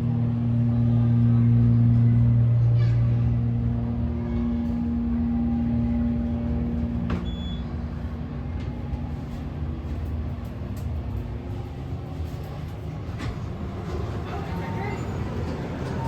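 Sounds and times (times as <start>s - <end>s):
elevator mechanical hum: 0.0s - 16.0s.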